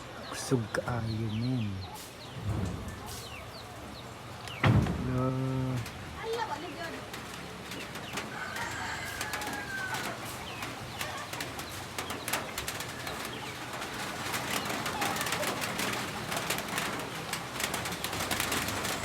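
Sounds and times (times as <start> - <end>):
birds calling: 0.0 - 19.0
heavy rain pattering: 0.0 - 19.0.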